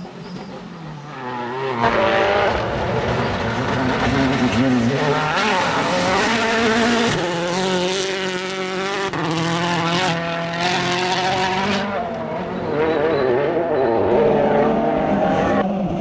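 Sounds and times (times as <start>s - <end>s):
car engine at high revs: 0.7s - 16.0s.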